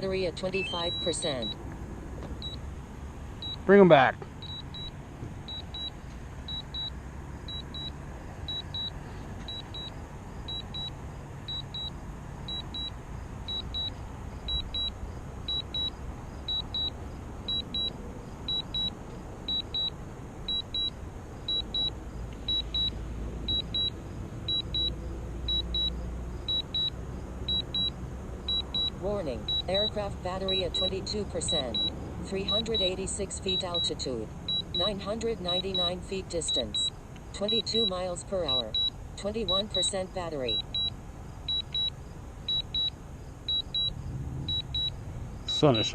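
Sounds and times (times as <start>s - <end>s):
high double beep alarm: 0.0s - 1.6s, 3.4s - 3.7s, 4.4s - 19.9s, 20.5s - 21.9s, 22.5s - 42.9s, 43.5s - 45.0s.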